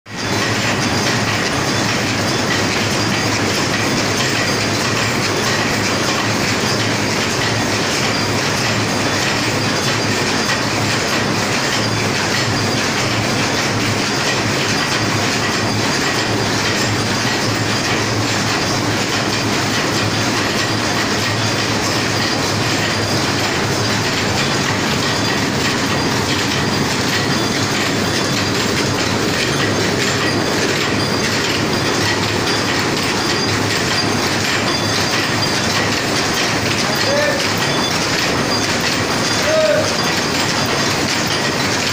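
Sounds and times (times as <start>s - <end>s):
machine rapid mechanical clatter: 0.1s - 41.9s.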